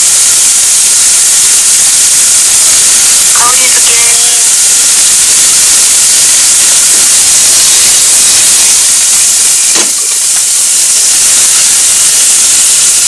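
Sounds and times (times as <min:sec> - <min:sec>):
chicken sizzling in frying pan: 0:00.0 - 0:03.3, 0:04.5 - 0:13.0.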